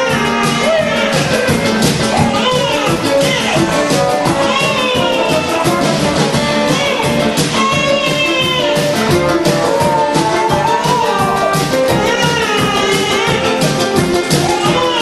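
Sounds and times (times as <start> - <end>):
lively instrumental music: 0.0 - 15.0.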